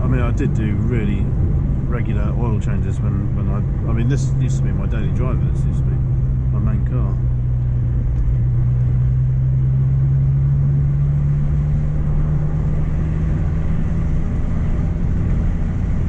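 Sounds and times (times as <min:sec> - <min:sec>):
car engine drone: 0:00.0 - 0:16.0
low rumble: 0:00.0 - 0:16.0.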